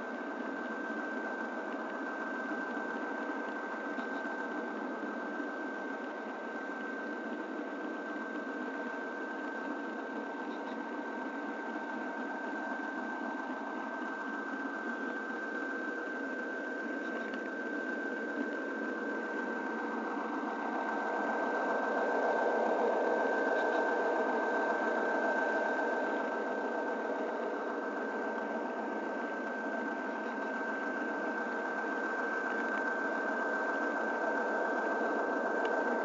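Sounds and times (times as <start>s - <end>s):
thin high whine: 0.0s - 36.0s.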